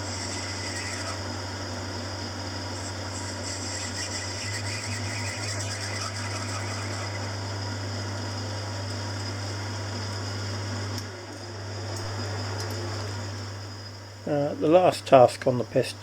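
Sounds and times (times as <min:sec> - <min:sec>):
metalworking lathe humming: 0:00.0 - 0:16.0.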